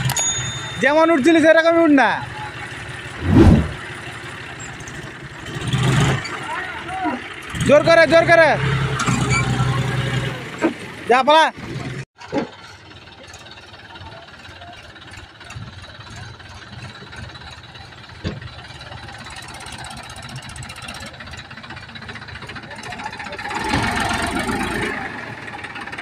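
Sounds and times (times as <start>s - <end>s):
diesel tractor engine under load: 0.0s - 26.0s.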